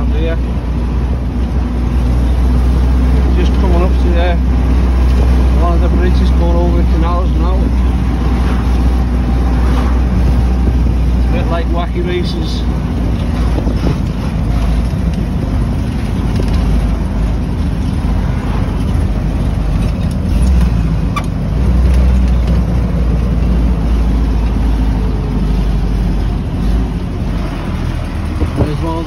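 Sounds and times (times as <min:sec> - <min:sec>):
car engine running: 0:00.0 - 0:29.0
road and wind noise: 0:00.0 - 0:29.0.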